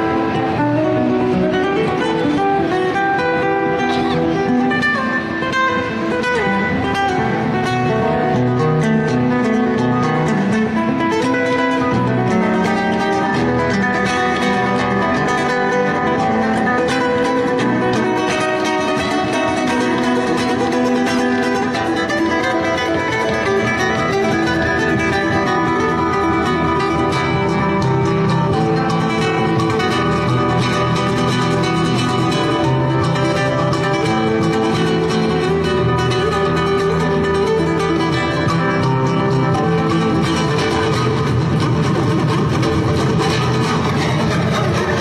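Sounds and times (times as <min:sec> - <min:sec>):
flamenco acoustic guitar: 0:00.0 - 0:45.0.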